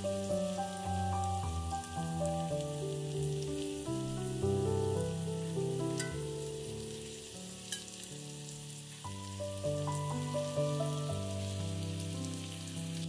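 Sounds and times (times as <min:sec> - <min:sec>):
background music held notes: 0:00.0 - 0:13.0
food sizzling in oil: 0:00.0 - 0:13.0.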